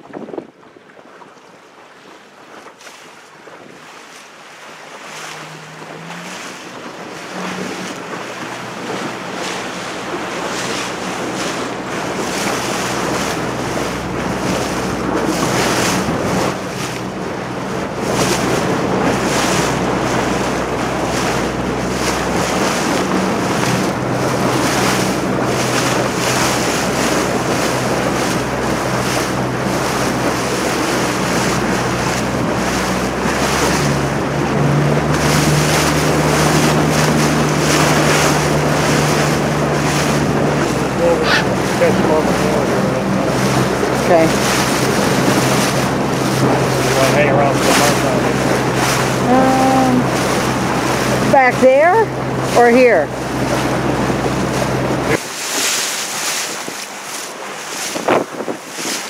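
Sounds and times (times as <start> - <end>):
water rushing past a boat: 0.0 - 59.0
wind buffeting microphone: 0.0 - 59.0.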